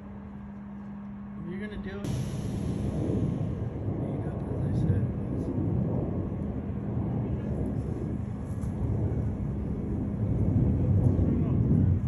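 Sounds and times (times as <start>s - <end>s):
faint hum: 0.0s - 12.0s
truck engine rumbling: 0.0s - 12.0s.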